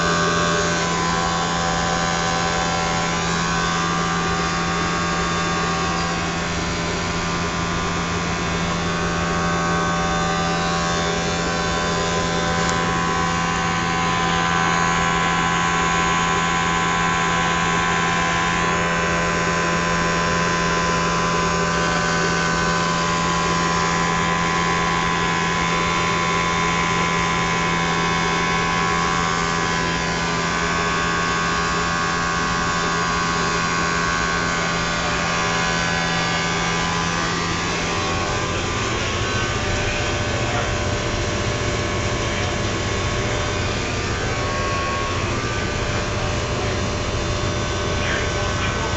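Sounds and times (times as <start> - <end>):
blower motor humming: 0.0 - 48.9
steady whining tones: 0.0 - 48.9.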